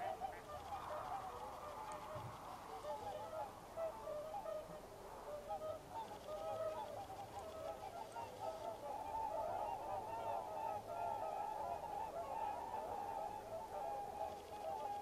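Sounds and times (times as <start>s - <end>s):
swans honking: 0.0s - 15.0s.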